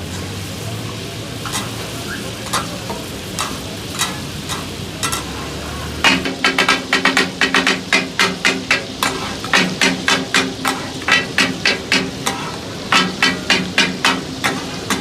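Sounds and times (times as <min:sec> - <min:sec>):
food sizzling on a griddle: 0:00.0 - 0:15.0
metal spatulas scraping and clanking: 0:01.4 - 0:05.4, 0:06.0 - 0:15.0.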